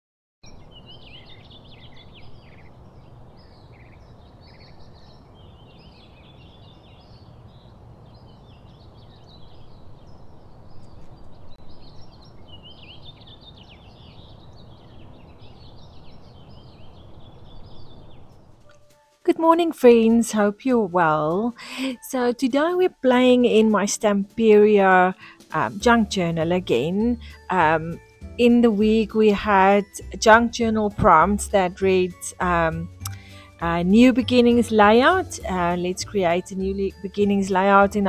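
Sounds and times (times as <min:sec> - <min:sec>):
songbirds chirping: 0:00.4 - 0:38.0.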